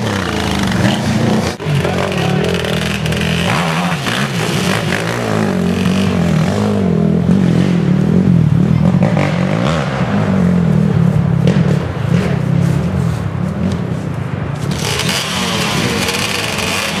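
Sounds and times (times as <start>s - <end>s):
atv engines revving hard: 0.0s - 17.0s.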